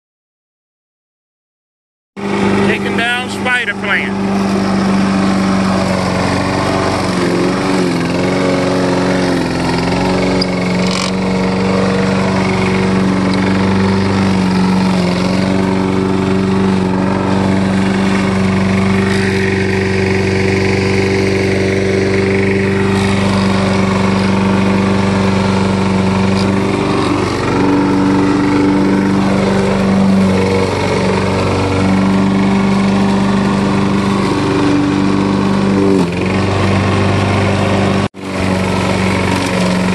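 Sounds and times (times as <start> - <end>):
lawn mower engine running: 2.2 - 39.9.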